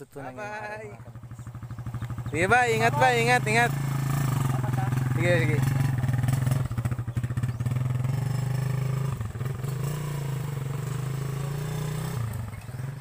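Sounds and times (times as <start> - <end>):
small motorcycle engine: 0.2 - 13.0.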